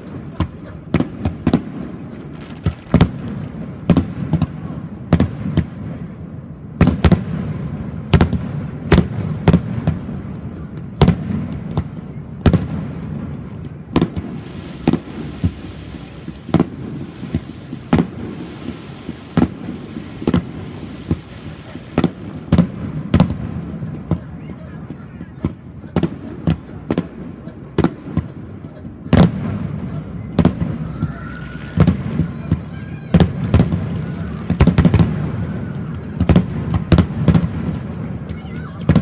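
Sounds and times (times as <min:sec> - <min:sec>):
crackling hiss of fireworks: 0:00.0 - 0:39.0
fireworks booming: 0:00.0 - 0:39.0.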